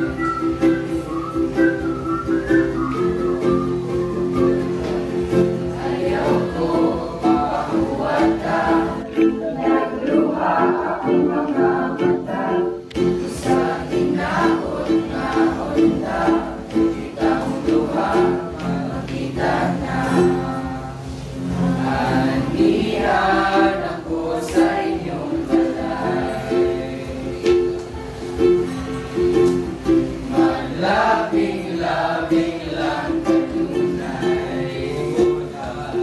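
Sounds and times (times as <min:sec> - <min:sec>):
group of voices singing: 0:00.0 - 0:36.0
ukulele strumming: 0:00.0 - 0:36.0.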